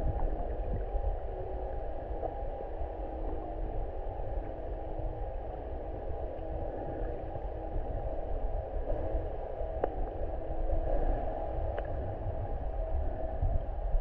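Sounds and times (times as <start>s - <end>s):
faint steady hum: 0.0s - 14.0s
underwater rumble of moving water: 0.0s - 14.0s.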